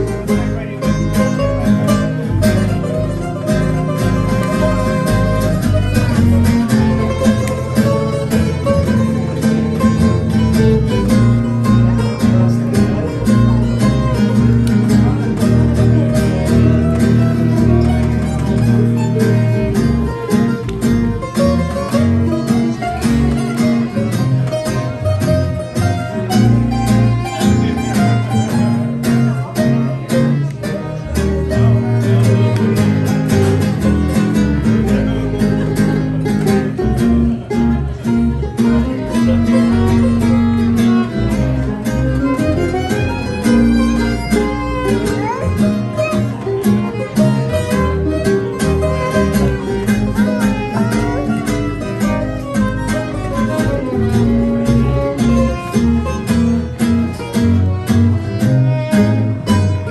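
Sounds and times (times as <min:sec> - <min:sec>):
fiddle melody: 0:00.0 - 0:59.9
strummed acoustic guitars: 0:00.0 - 0:59.9
upright bass: 0:00.0 - 0:59.9.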